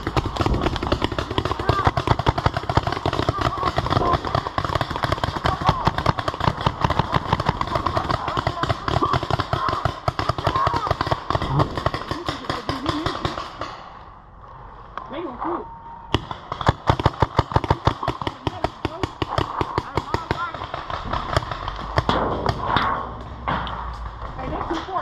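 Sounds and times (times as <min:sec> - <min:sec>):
paintball markers firing: 0:00.0 - 0:13.9, 0:16.1 - 0:22.6.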